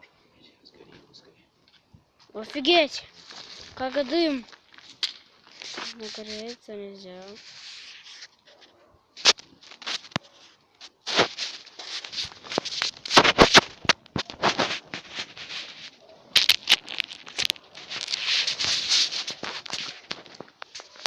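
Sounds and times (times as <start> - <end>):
bonfire crackling and popping: 1.6 - 8.5, 9.2 - 21.0.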